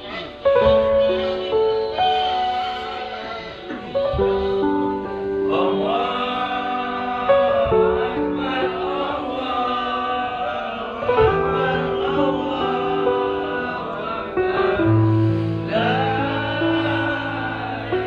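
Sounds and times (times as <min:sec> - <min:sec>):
choir singing slow melody: 0:00.0 - 0:18.0.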